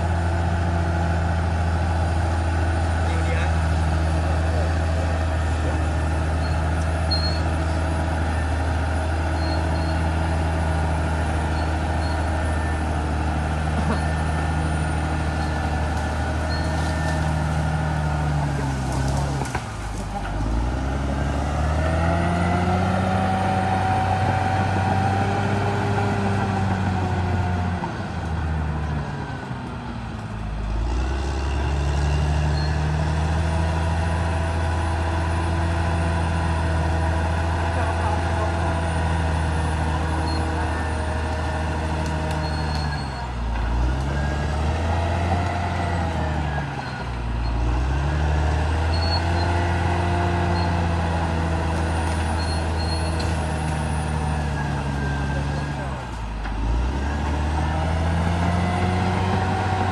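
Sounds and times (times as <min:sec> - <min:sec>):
bulldozer diesel engine revving: 0:00.0 - 0:59.9.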